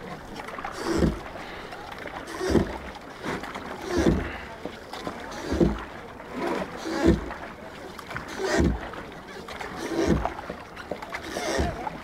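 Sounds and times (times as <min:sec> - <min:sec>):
oars rowing strokes: 0:00.0 - 0:12.0.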